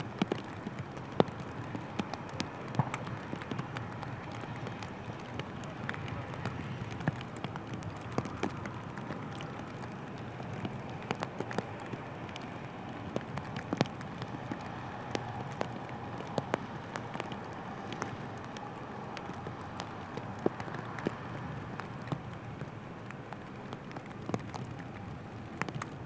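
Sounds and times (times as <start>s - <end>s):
raindrops tapping on cover: 0.0s - 26.0s.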